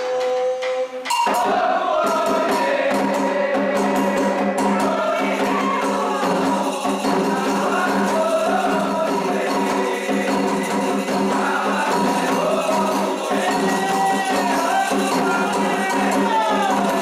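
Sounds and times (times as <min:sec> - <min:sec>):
ritual percussion strikes: 0:00.0 - 0:17.0
group of voices chanting: 0:01.1 - 0:17.0
lead singer: 0:01.3 - 0:17.0.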